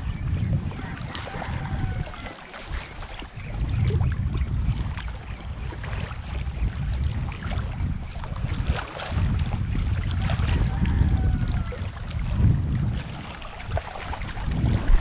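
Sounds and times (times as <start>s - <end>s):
water: 0.0s - 15.0s
wind buffeting microphone: 0.0s - 15.0s.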